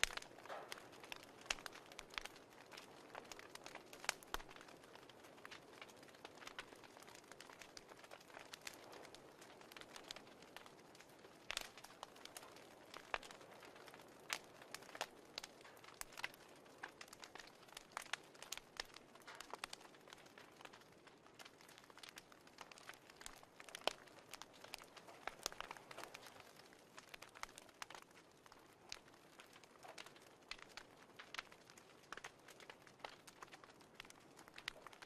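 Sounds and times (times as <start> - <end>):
fireplace crackling: 0.0 - 35.0.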